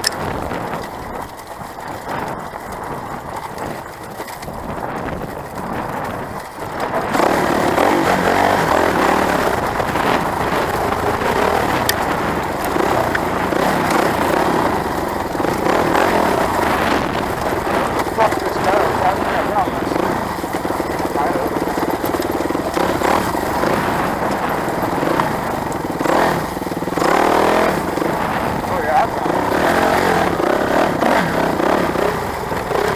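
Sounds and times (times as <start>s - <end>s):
off-road motorcycle engine: 0.0s - 32.9s.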